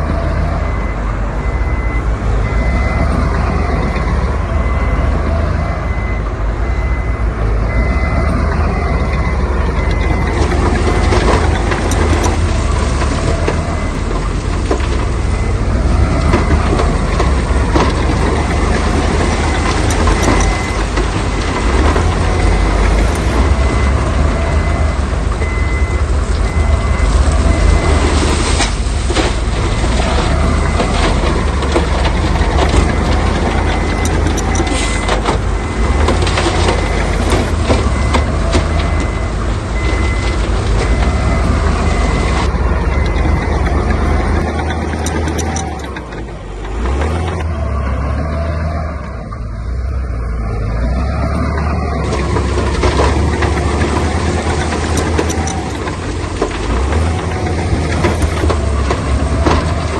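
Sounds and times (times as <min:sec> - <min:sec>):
heavy machinery engine rumble: 0:00.0 - 0:59.9
reversing alarm beeping: 0:00.0 - 0:59.9.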